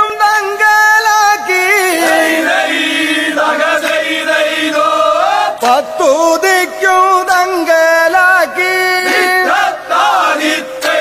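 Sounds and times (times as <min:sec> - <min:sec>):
devotional chant singing: 0:00.0 - 0:11.0.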